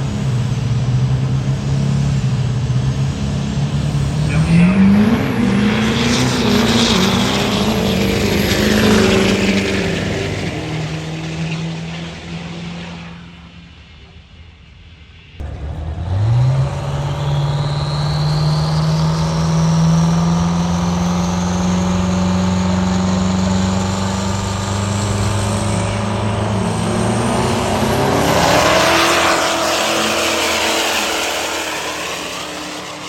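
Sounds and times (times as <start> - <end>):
diesel truck engine revving: 0.0 - 13.7, 15.4 - 33.0
loud rushing noise: 0.0 - 13.9, 15.0 - 33.0
high whine: 0.0 - 33.0.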